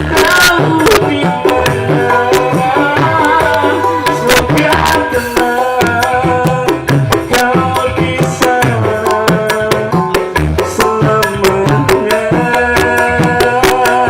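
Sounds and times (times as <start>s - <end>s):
busy drum rhythm: 0.0s - 14.0s
sustained instrumental notes: 0.0s - 14.0s.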